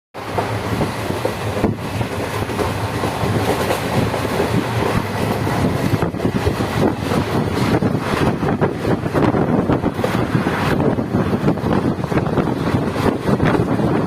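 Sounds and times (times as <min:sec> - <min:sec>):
train rumbling and rattling: 0:00.2 - 0:14.0.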